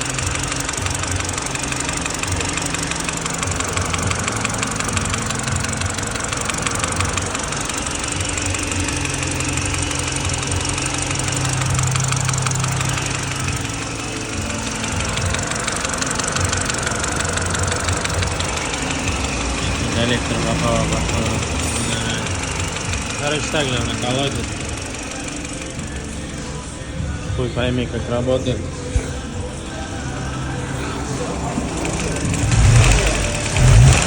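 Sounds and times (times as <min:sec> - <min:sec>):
fast knocking clatter: 0:00.0 - 0:26.2, 0:31.6 - 0:34.0
car engine running: 0:00.0 - 0:34.0.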